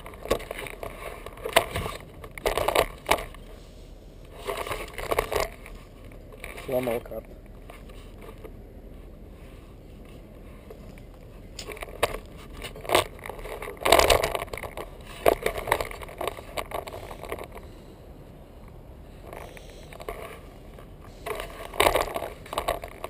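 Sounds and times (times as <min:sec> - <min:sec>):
steady low hiss: 0:00.0 - 0:23.0.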